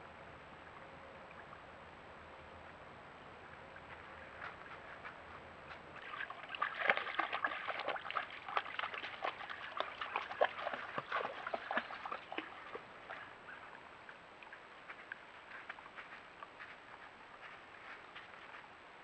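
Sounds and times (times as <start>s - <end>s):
creek water splashing: 3.5s - 19.0s.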